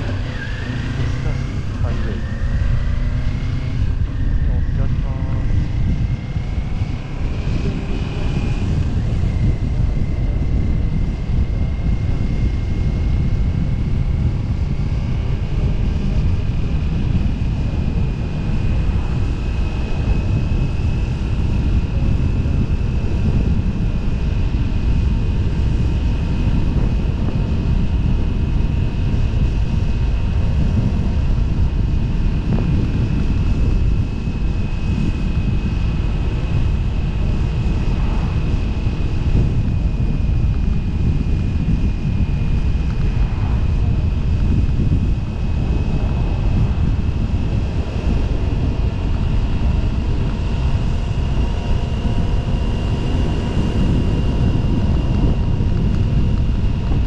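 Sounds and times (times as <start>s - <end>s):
motorcycle engine drone: 0.0s - 57.0s
thin whine: 0.0s - 57.0s
wind rumble on microphone: 0.0s - 57.0s.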